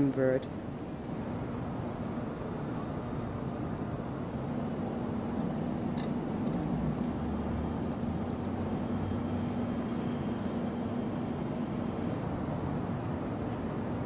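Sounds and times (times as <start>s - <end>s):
faint steady hum: 0.0s - 14.0s
low city rumble: 0.0s - 14.0s.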